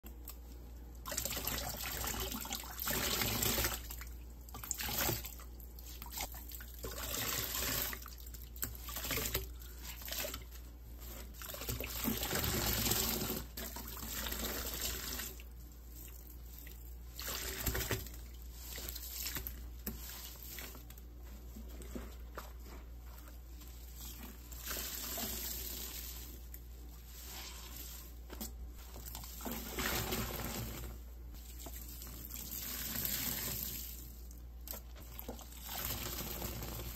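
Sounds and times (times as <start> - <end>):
sponges squelching in water: 0.0 - 36.9.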